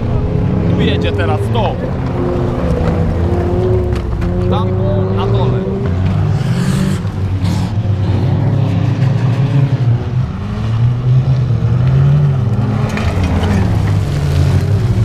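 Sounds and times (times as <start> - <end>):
car engines running hard: 0.0 - 15.0.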